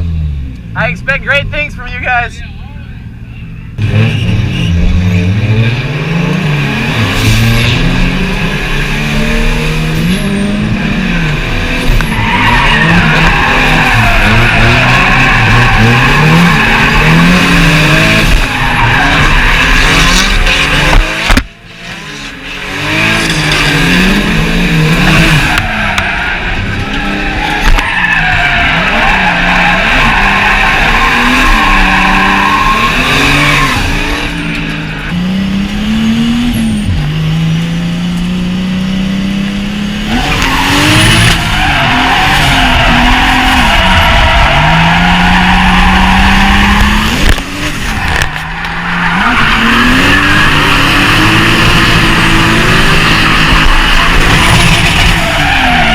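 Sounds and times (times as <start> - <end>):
tyres squealing and skidding: 1.7 - 37.0, 40.1 - 55.9
car engines revving hard: 3.7 - 55.9.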